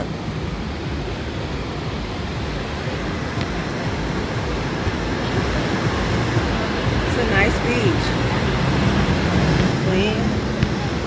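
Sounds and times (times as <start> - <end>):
surf rushing: 0.0 - 11.0.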